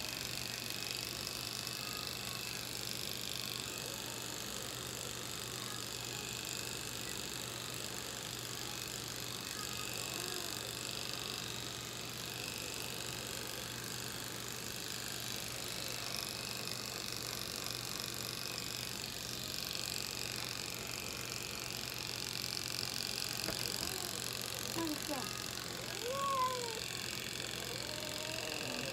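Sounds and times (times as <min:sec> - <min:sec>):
electric hair clippers buzzing: 0:00.0 - 0:28.9.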